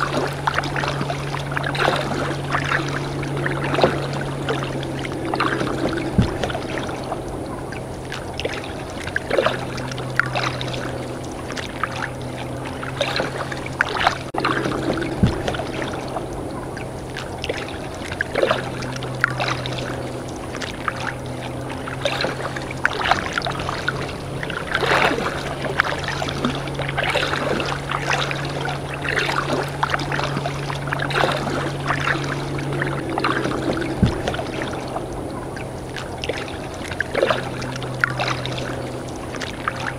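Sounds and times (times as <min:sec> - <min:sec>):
low steady hum: 0:00.0 - 0:39.9
paddle splashing in water: 0:00.0 - 0:39.9.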